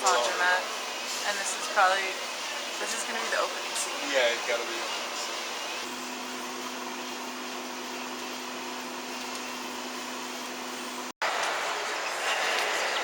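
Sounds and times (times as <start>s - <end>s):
laundromat machines whirring hum: 0.0s - 13.0s.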